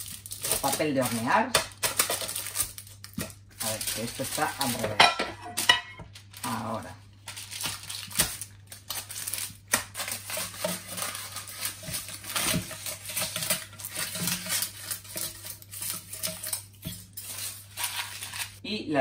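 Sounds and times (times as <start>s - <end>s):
baking paper rustling: 0.0s - 18.6s.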